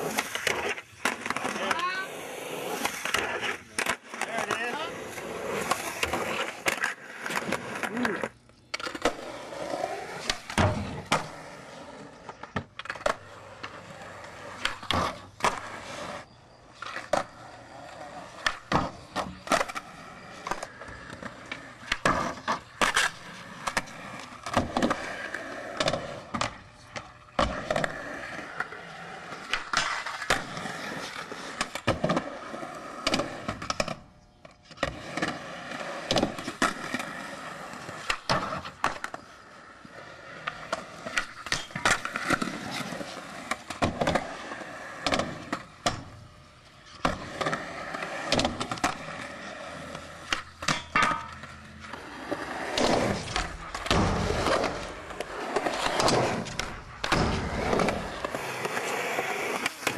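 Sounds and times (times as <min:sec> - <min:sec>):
skateboard clacks: 0:00.0 - 0:02.1, 0:12.2 - 0:15.8, 0:16.7 - 0:59.9
skateboard wheels rolling on concrete: 0:00.0 - 0:59.9.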